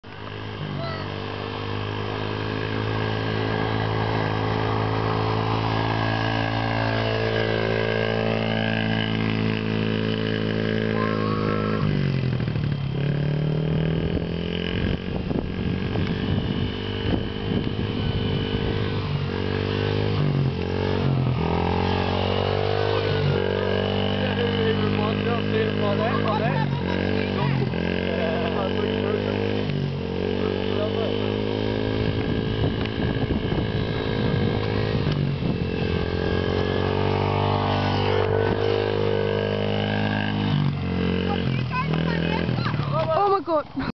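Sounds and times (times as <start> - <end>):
small motorcycle engine revving: 0.0 - 43.9.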